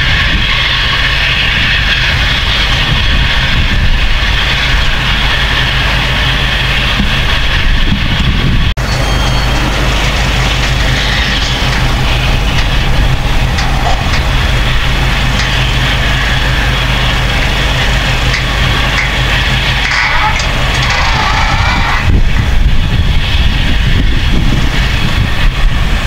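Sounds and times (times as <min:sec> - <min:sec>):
tractor diesel engine droning: 0:00.0 - 0:26.0.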